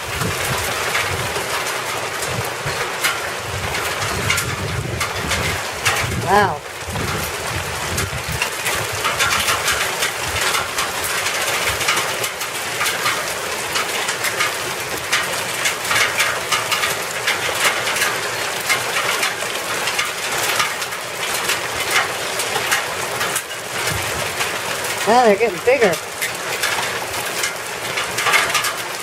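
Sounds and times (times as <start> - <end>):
hailstones pattering: 0.0 - 29.0.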